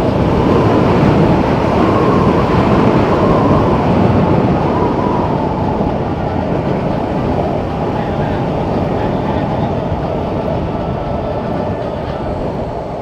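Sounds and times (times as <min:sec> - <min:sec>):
wind rush on microphone: 0:00.0 - 0:13.0.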